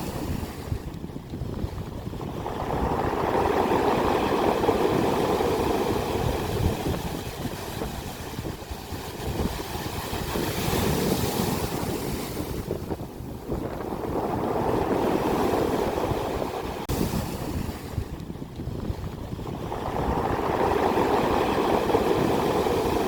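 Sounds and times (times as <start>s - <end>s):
sea waves breaking on shore: 0.0s - 23.0s.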